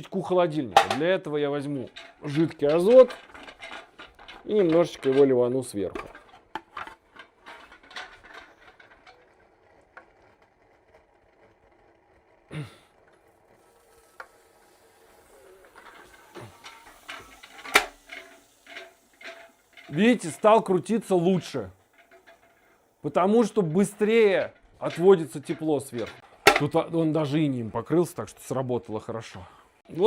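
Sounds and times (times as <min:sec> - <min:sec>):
model engine clicking and ticking: 0:00.8 - 0:12.3, 0:12.9 - 0:27.4.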